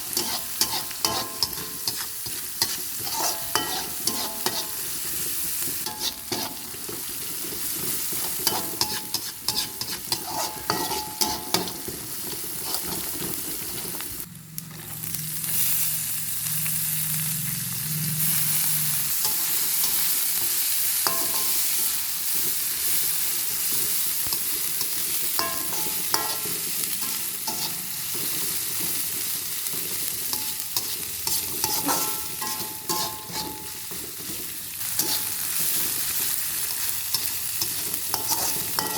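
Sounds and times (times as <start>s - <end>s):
metal spatula scraping a pan: 0.0s - 14.0s, 18.2s - 38.9s
food sizzling in hot oil: 0.0s - 38.9s.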